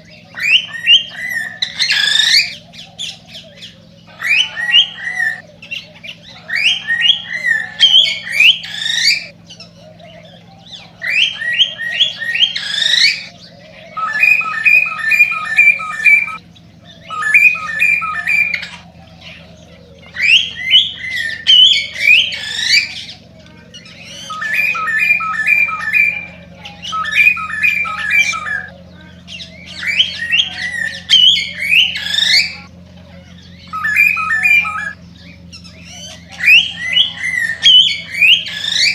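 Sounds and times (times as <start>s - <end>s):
cockatiel whistling song: 0.0s - 32.7s, 33.5s - 38.9s
faint low hum: 0.0s - 38.9s.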